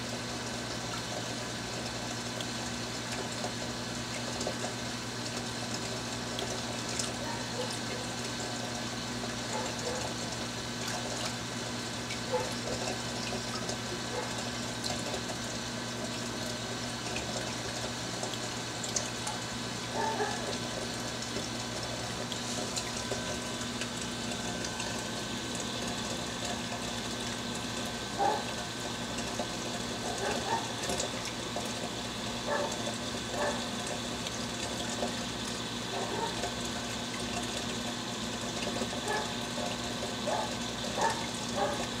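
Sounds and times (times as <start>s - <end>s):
pump humming: 0.0s - 42.0s
moving water: 0.2s - 42.0s.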